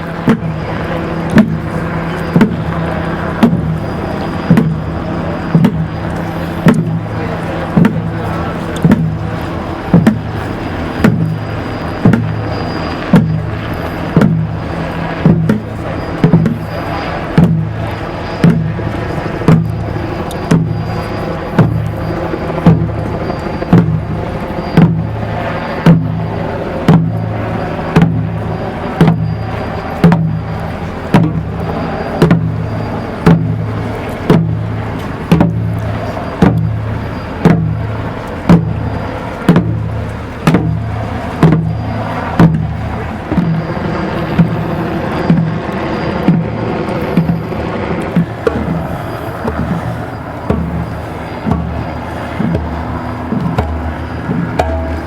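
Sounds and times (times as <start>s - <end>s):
drum beaten slowly: 0.0s - 55.0s
low hum: 0.0s - 55.0s.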